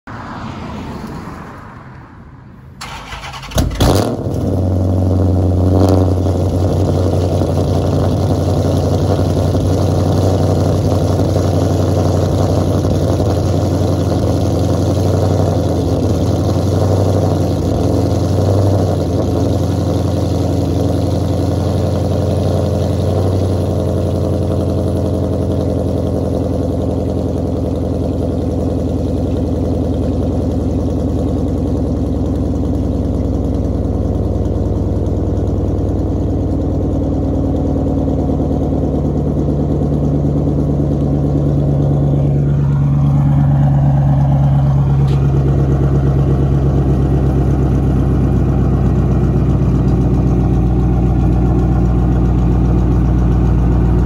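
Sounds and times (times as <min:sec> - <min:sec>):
engine revving and idling fast: 0:02.8 - 0:54.0.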